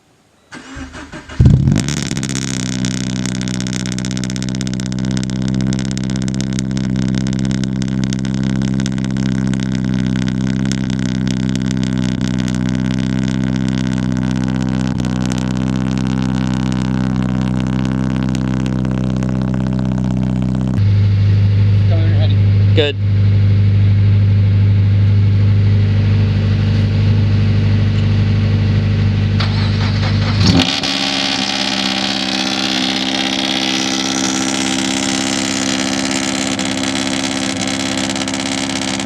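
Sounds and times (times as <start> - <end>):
car engine idling: 0.5 - 39.0.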